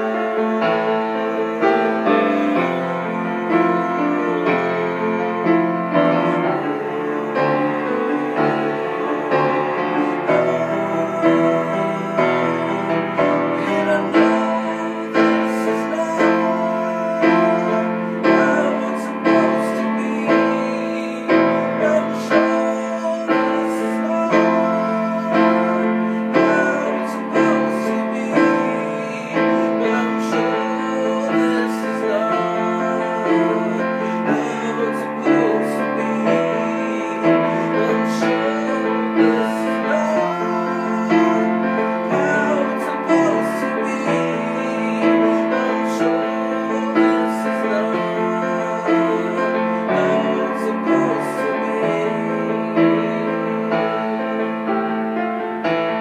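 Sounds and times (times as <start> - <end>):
piano music: 0.0 - 56.0.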